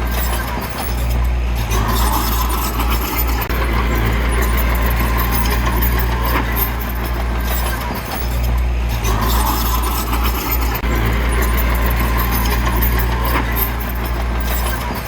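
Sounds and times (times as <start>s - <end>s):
diesel machinery engine drone: 0.0s - 15.0s.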